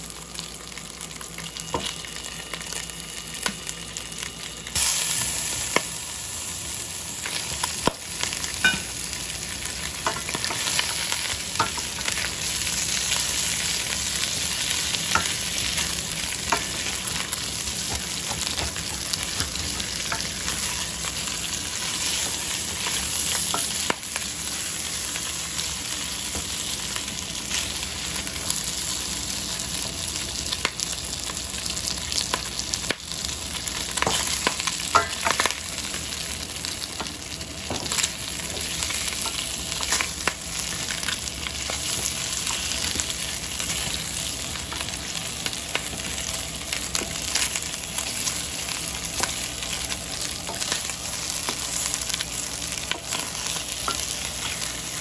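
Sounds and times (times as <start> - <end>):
food sizzling in pan: 0.0 - 55.0.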